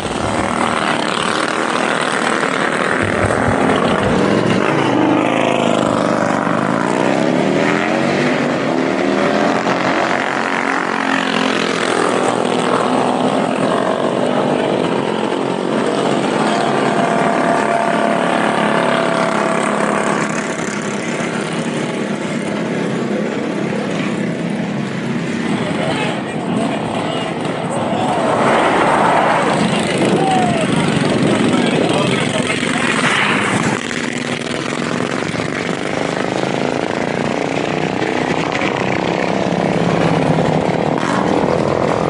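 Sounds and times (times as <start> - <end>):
mini bike engines revving: 0.0 - 42.0.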